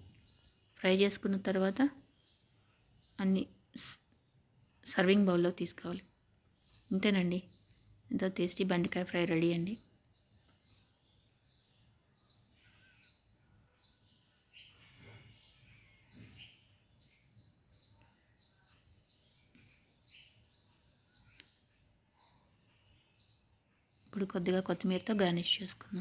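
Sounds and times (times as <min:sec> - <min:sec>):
bird chirping faintly: 0:00.0 - 0:26.0.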